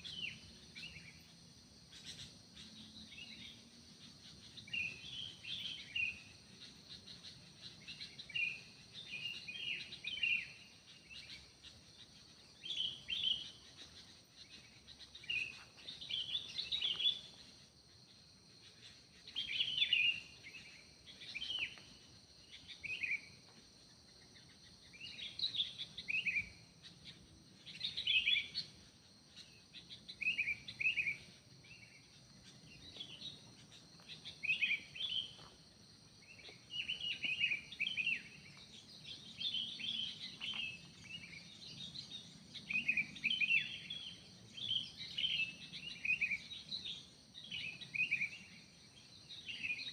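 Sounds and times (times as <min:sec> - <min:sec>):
birds chirping: 0:01.9 - 0:23.5, 0:24.2 - 0:49.9.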